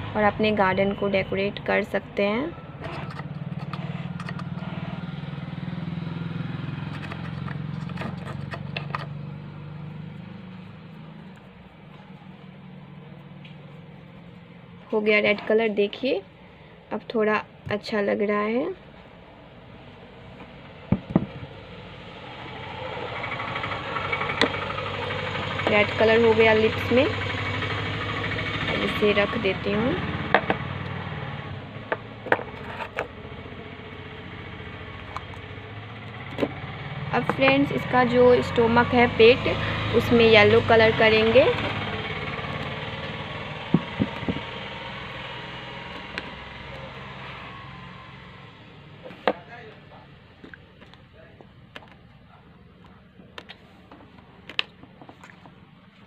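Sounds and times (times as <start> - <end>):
engine running with pulsing hum: 0.0 - 15.1, 18.9 - 56.0.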